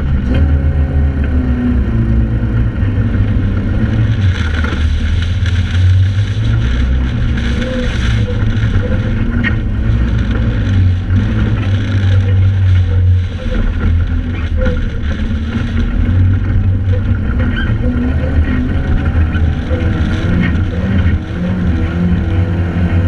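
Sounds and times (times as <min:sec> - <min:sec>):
sand rail engine drone: 0:00.0 - 0:23.0.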